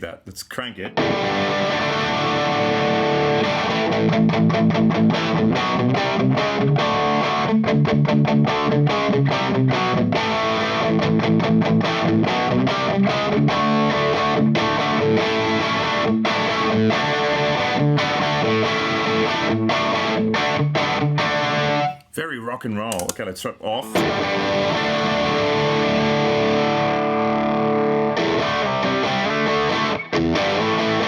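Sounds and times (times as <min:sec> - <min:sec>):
distorted electric guitar: 0:00.8 - 0:22.0, 0:23.9 - 0:31.0.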